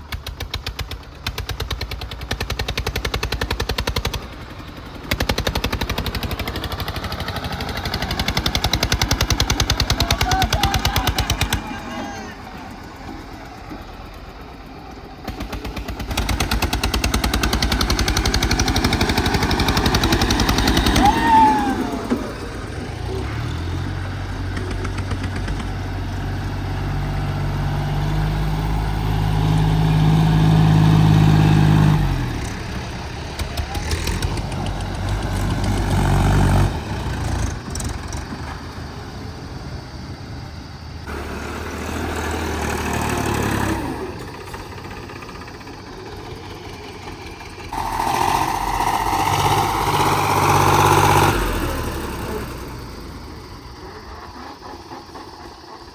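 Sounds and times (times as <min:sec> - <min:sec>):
tractor diesel engine chugging: 0:00.0 - 0:55.9.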